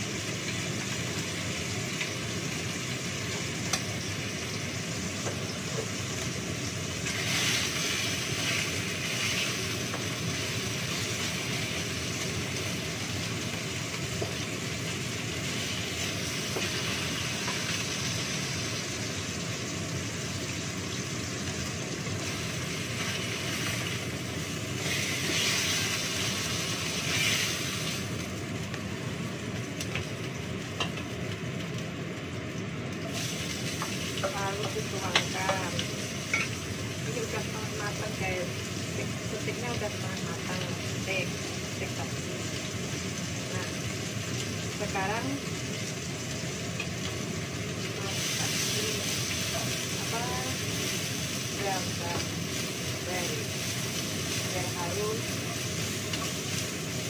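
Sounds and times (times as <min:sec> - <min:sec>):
meat sizzling in hot oil: 0:00.0 - 0:57.0.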